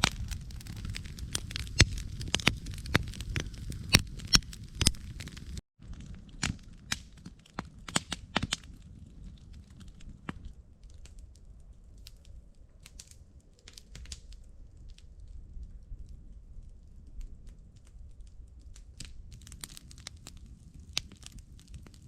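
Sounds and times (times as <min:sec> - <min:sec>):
sharp fire pops: 0:00.0 - 0:16.2, 0:17.2 - 0:22.0
campfire crackling: 0:00.0 - 0:22.0.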